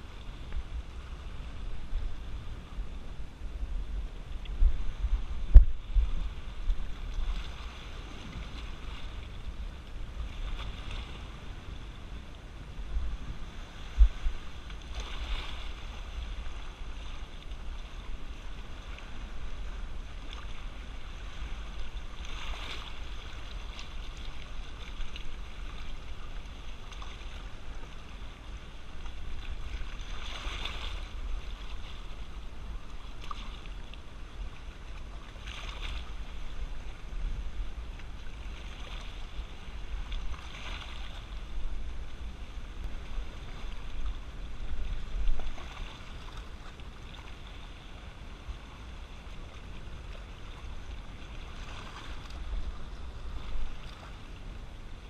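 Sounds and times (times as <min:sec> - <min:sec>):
sea water washing over rocks: 0:00.0 - 0:55.0
wind rumble on microphone: 0:00.0 - 0:55.0.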